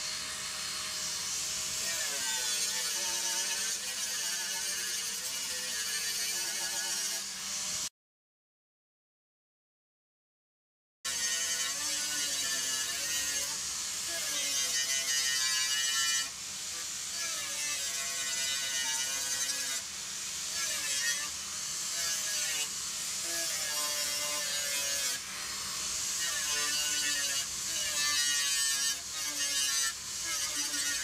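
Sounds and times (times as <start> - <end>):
angle grinder grinding metal: 0.0 - 7.9, 11.1 - 31.0.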